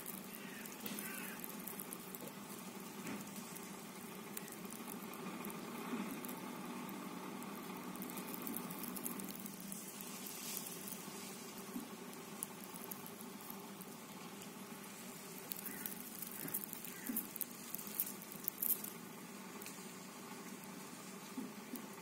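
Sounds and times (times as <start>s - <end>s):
faint clicks and crackles: 0.0s - 22.0s
faint hum: 0.0s - 22.0s.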